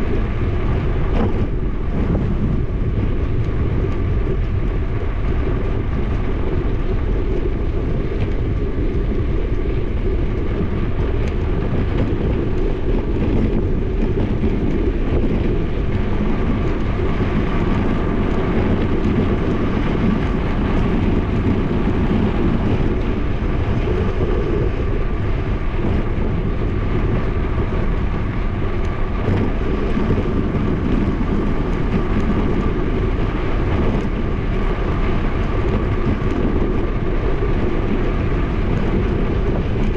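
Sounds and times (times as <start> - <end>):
bicycle tyres on asphalt: 0.0 - 39.9
wind buffeting microphone: 0.0 - 39.9.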